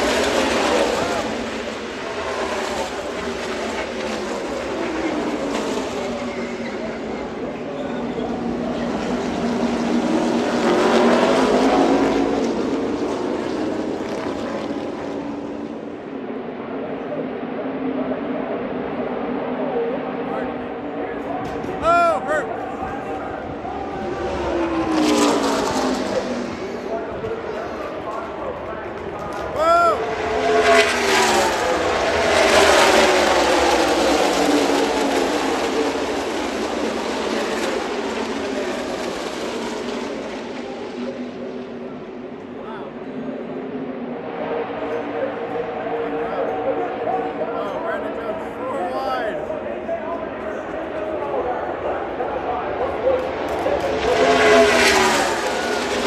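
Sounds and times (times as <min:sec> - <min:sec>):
distant race car engines passing: 0:00.0 - 0:56.0.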